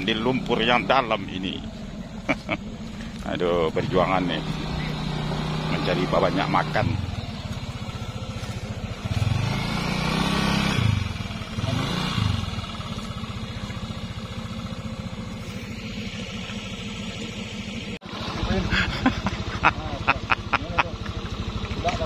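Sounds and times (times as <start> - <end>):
motor scooter engine revving: 0.0 - 22.0.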